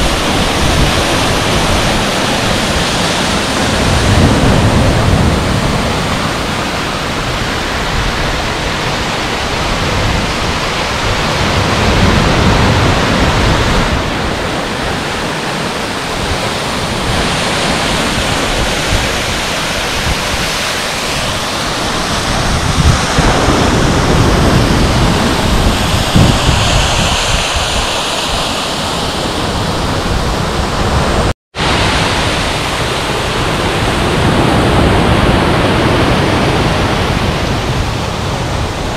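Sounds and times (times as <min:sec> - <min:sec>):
surf breaking on beach: 0:00.0 - 0:38.9.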